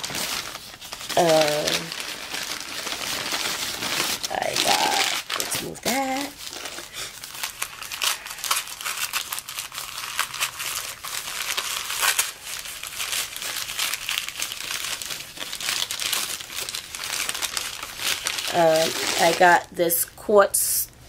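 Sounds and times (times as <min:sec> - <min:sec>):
paper wrapping crinkling: 0:00.0 - 0:19.7.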